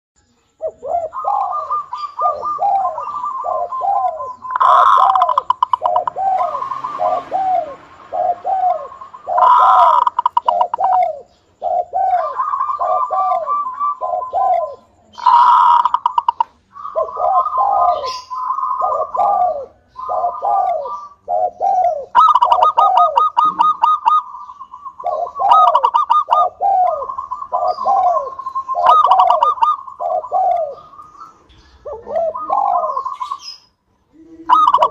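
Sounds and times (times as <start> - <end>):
dove cooing: 0.6 - 34.9.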